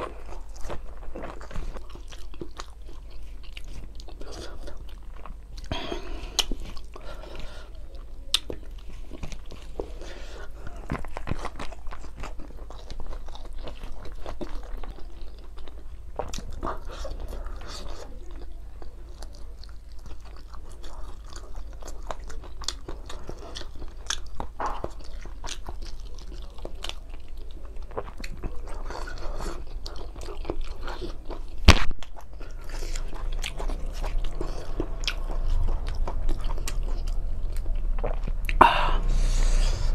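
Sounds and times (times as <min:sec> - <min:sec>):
steady low hum: 0:00.0 - 0:39.9
wet chewing: 0:00.0 - 0:39.9.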